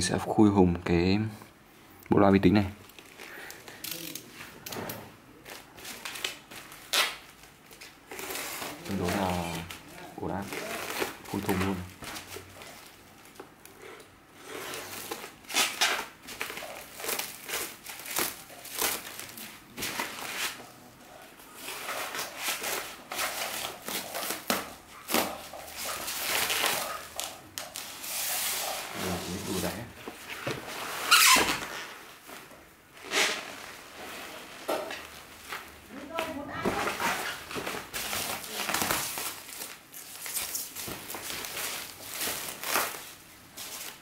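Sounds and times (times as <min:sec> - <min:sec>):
plastic wrapping crinkling and tearing: 0:02.8 - 0:13.8, 0:14.4 - 0:44.0.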